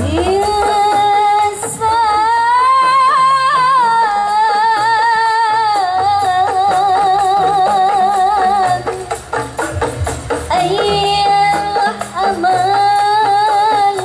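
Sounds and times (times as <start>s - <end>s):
woman singing with vibrato: 0.0s - 9.2s, 10.4s - 14.0s
faint rhythmic percussion: 0.0s - 14.0s.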